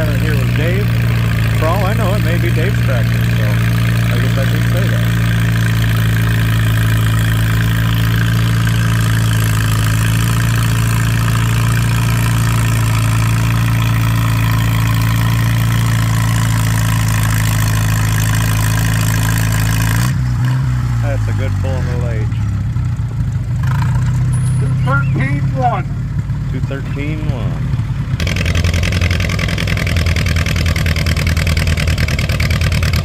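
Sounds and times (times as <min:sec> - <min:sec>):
tractor engine running hard: 0:00.0 - 0:33.0.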